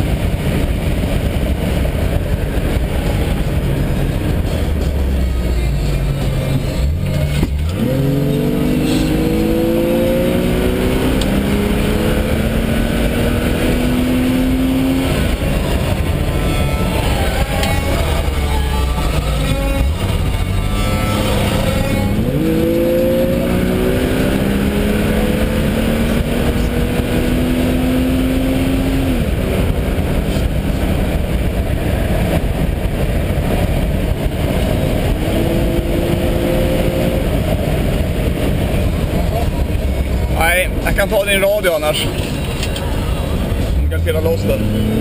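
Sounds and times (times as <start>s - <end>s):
car engine revving: 0.0s - 45.0s
road and wind rush: 0.0s - 45.0s.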